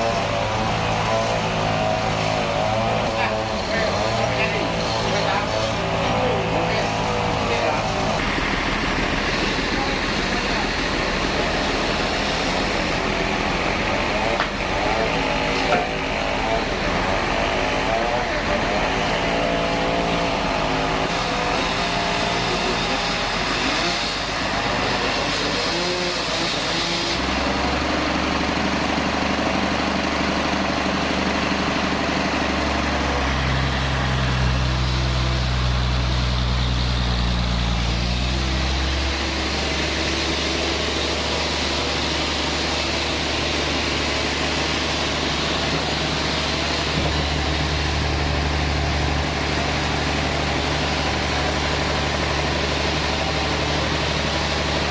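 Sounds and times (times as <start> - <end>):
band saw motor humming: 0.0 - 54.9.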